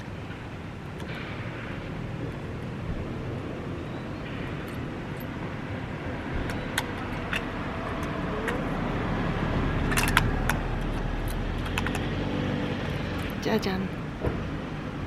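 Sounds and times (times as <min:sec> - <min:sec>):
car traffic rumbling past: 0:00.0 - 0:15.0.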